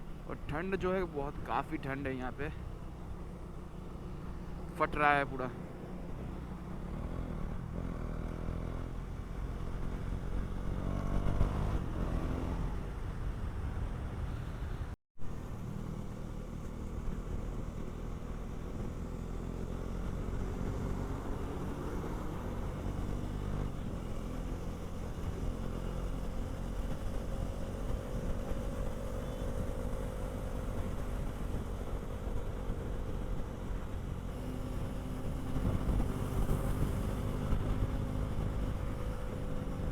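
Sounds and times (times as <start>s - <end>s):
motorcycle engine accelerating: 2.9s - 13.8s, 15.3s - 39.9s.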